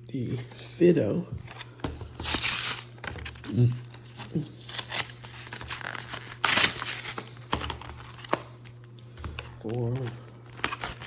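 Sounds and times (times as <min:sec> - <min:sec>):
foil wrapper crinkling: 0:02.1 - 0:11.0.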